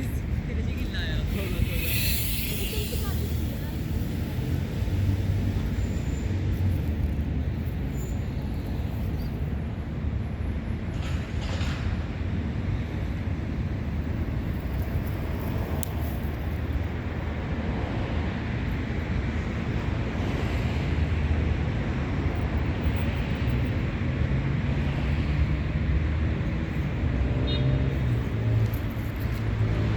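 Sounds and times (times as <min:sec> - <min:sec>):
outdoor background rumble and hiss: 0:00.0 - 0:29.9.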